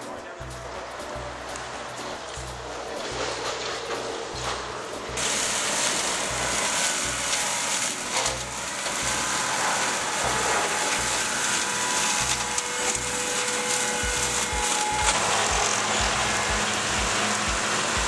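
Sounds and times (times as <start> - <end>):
background music with low beat: 0.0 - 18.0
flail mower shredding grass: 0.0 - 18.0.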